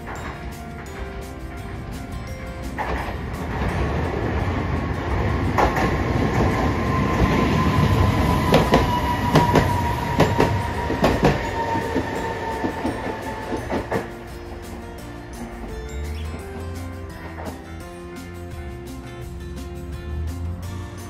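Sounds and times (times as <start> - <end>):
wheels clacking over rail joints: 0.0 - 18.4
tram rumbling past with whine: 0.0 - 21.0.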